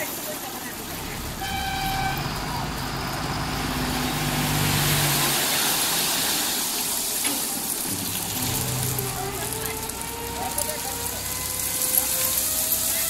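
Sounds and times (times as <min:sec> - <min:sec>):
diesel engine humming: 0:00.0 - 0:13.0
stone chips pouring off truck: 0:00.0 - 0:13.0.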